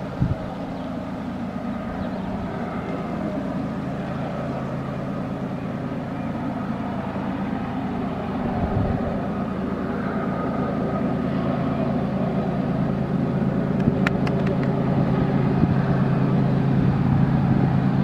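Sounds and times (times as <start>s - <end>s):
locomotive engine drone: 0.0s - 18.0s.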